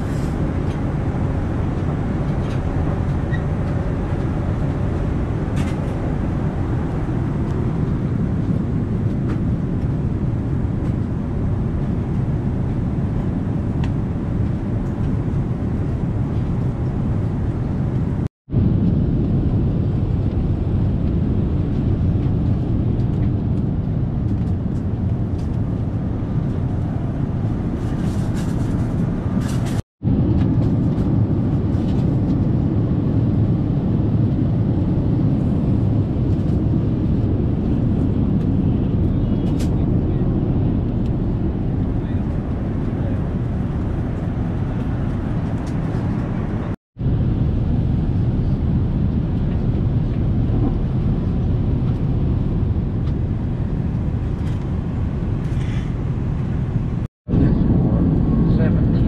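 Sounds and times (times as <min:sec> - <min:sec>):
airplane cabin engine roar: 0:00.0 - 0:59.0.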